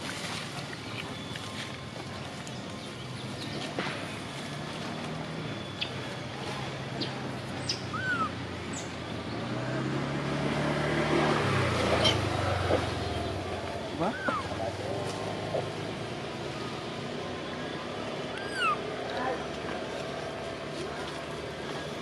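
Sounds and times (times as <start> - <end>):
outdoor background noise: 0.0 - 22.0
vehicle engine passing: 3.0 - 22.0.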